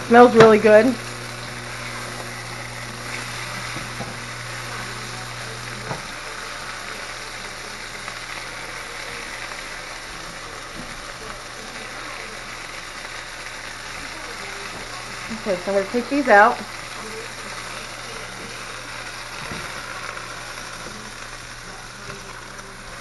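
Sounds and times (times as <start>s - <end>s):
chicken sizzling in a skillet: 0.0s - 23.0s.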